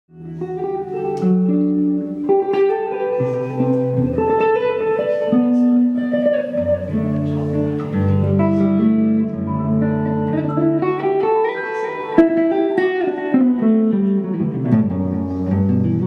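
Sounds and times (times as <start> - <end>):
guitar-led band music: 0.1 - 16.0.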